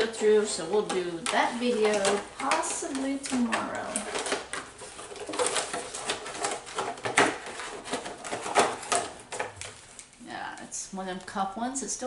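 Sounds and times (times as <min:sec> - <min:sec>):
packaging rustling and crinkling: 0:00.0 - 0:10.2.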